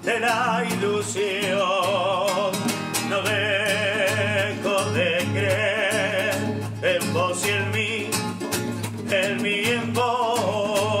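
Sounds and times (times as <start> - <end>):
person singing with vibrato: 0.0 - 8.4, 9.0 - 11.0
instrumental backing with bass: 0.0 - 11.0.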